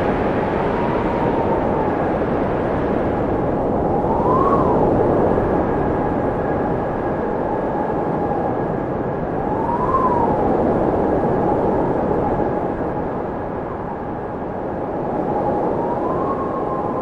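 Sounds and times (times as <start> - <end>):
wind blowing and whistling: 0.0 - 17.0.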